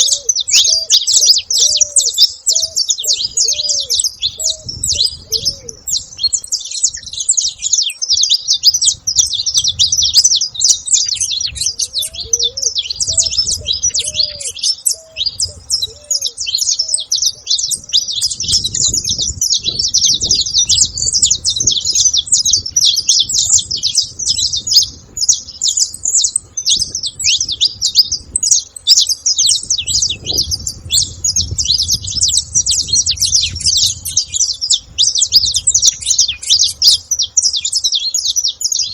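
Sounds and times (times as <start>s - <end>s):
flock of finches chirping: 0.0s - 38.9s.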